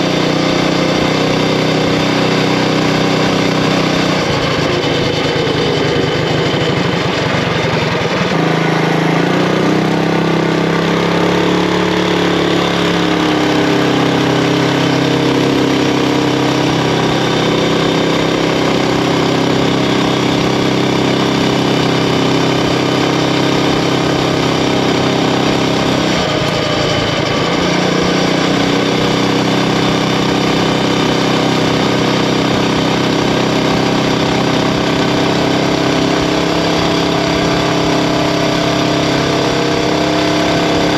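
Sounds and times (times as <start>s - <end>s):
mini bike engine at speed: 0.0s - 40.9s.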